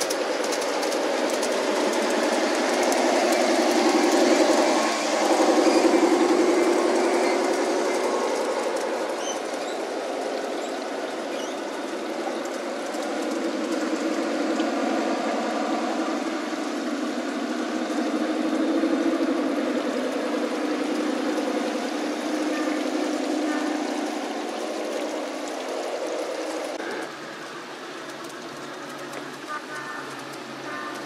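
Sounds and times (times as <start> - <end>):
model railcar motor buzzing: 0.0 - 31.0.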